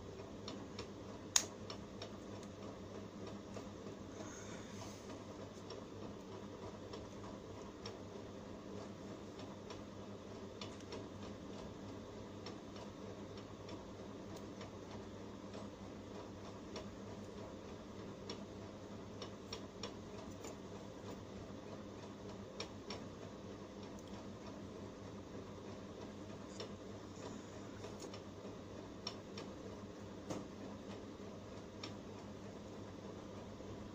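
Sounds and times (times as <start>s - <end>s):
low electrical hum: 0.0s - 33.9s.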